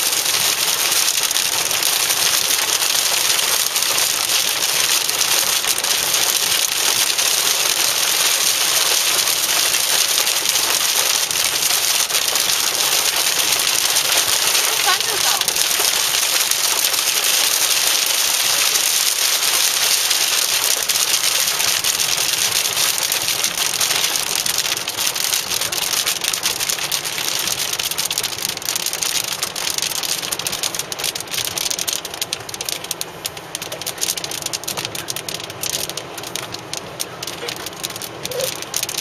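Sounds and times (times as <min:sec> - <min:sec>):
heavy rain drumming on car roof: 0:00.0 - 0:39.0.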